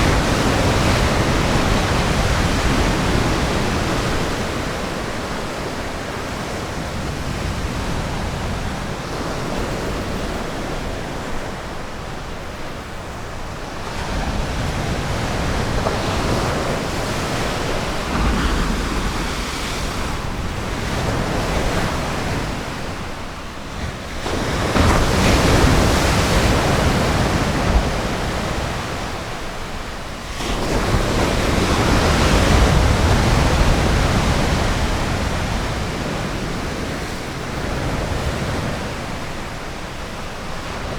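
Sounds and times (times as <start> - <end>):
ocean surf breaking: 0.0 - 40.9
wind rumbling on microphone: 0.0 - 40.9.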